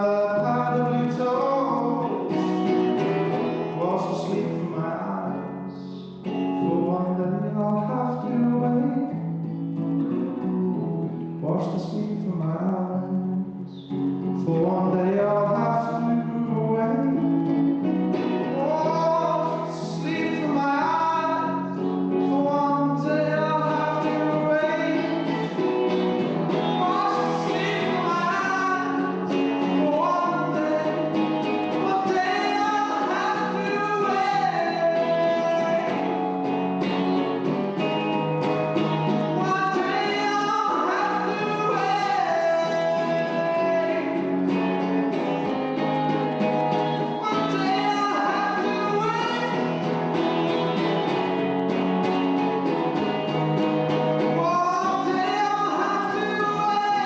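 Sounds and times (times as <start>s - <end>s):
person singing: 0.0s - 10.4s, 11.2s - 50.9s, 54.0s - 57.0s
acoustic guitar: 0.0s - 57.0s.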